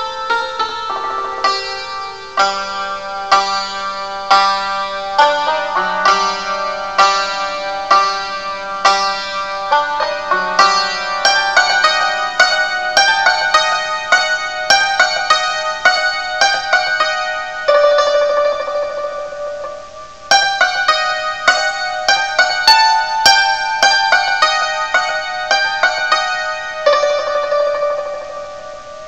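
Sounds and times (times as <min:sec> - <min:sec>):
santoor playing: 0:00.0 - 0:29.0.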